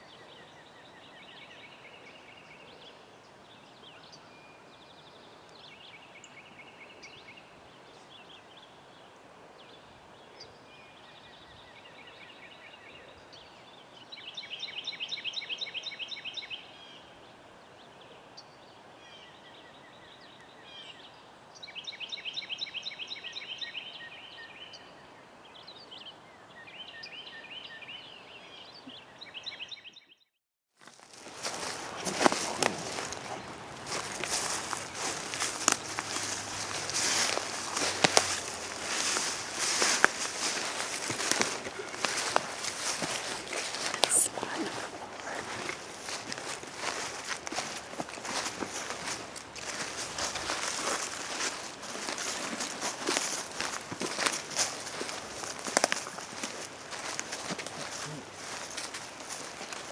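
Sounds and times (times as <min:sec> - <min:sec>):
songbirds singing: 0:00.0 - 0:30.2, 0:30.9 - 0:59.9.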